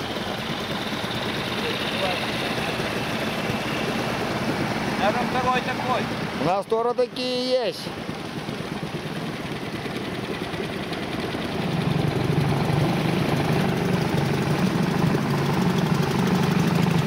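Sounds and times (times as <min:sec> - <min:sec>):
small outboard motor running: 0:00.0 - 0:17.0.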